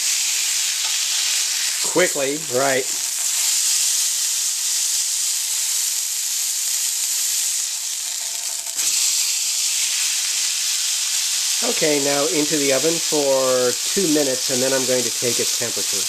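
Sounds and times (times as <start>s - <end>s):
steak sizzling in a skillet: 0.0s - 16.0s.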